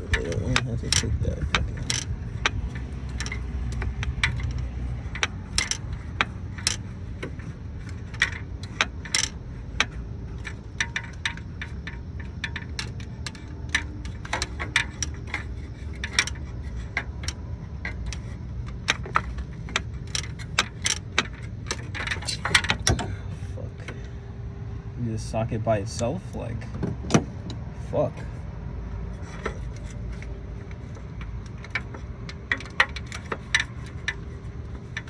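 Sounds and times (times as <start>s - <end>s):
metal tools clinking: 0.0s - 24.0s, 29.1s - 35.0s.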